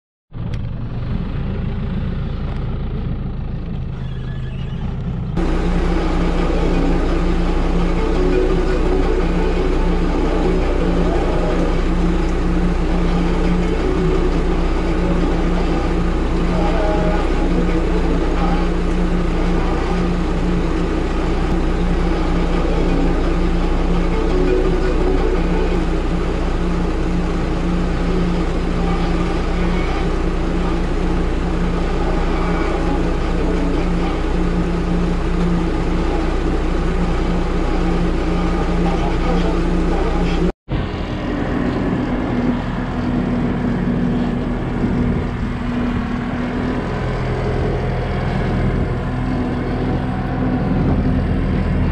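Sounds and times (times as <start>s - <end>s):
heavy vehicle engine idling: 0.4s - 51.9s.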